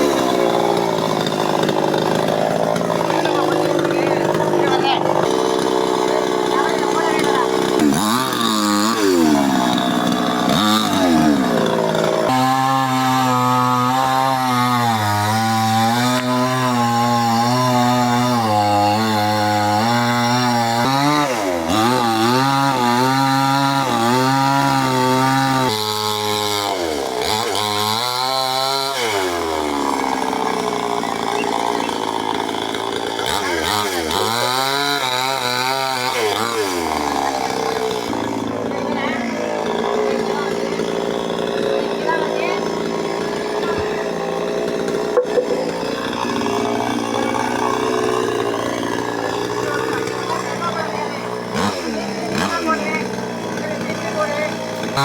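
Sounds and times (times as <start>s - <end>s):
chainsaw engine cutting: 0.0s - 55.0s.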